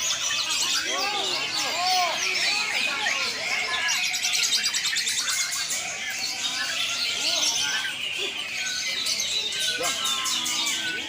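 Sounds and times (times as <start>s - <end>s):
birds singing: 0.0s - 11.0s
faint human voices: 0.0s - 11.0s.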